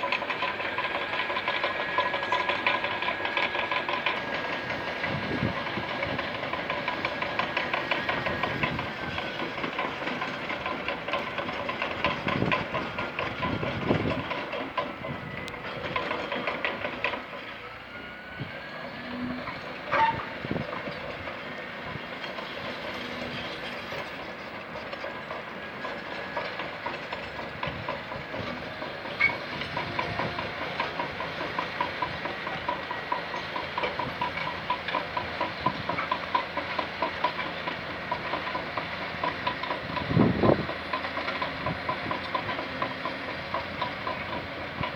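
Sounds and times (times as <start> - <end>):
crawler tracks clattering: 0.0 - 17.6, 19.2 - 44.9
diesel engine running: 0.0 - 44.9.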